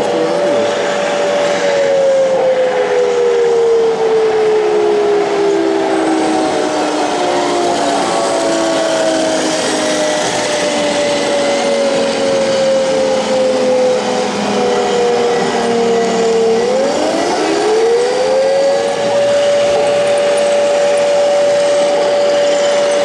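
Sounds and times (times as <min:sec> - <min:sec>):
electric motors and gearbox whining: 0:00.0 - 0:23.0
steady rushing noise: 0:00.0 - 0:23.0.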